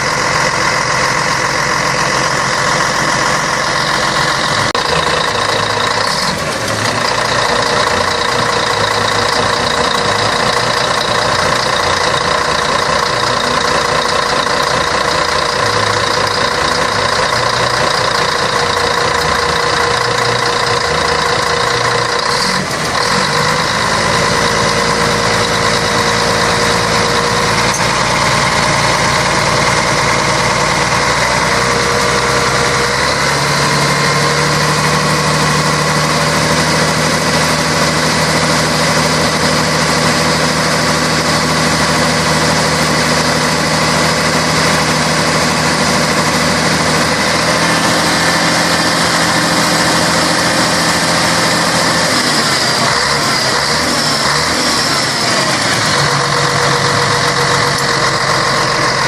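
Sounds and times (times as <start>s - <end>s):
bus diesel engine whining: 0.0s - 59.0s.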